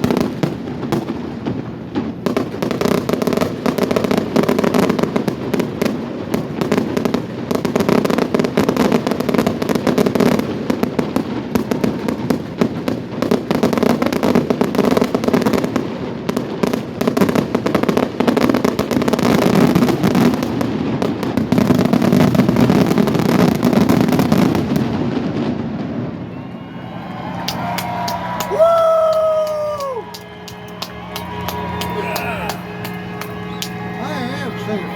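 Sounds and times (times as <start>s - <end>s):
fireworks bursting and crackling: 0.0s - 34.9s.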